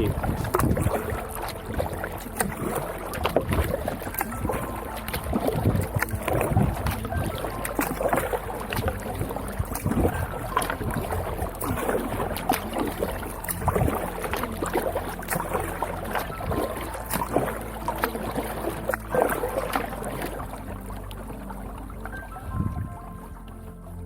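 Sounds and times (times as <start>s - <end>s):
wind on microphone: 0.0s - 20.8s, 22.1s - 23.3s
water lapping against plastic hull: 0.0s - 24.0s.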